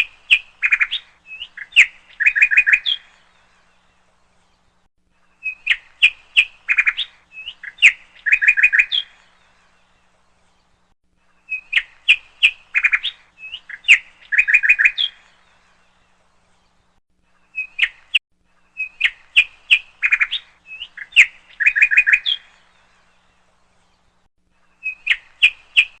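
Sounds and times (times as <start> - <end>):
bird chirping and trilling: 0.0 - 4.7, 5.3 - 10.8, 11.4 - 16.8, 17.4 - 24.1, 24.7 - 26.0.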